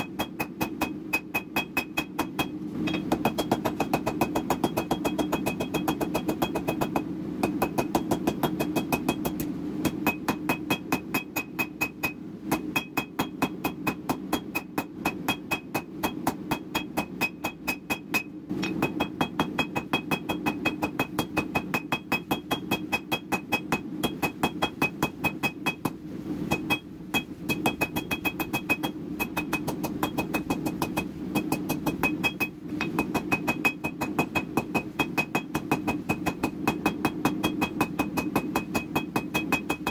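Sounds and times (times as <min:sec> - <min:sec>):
hammer striking steel on anvil: 0:00.0 - 0:39.9.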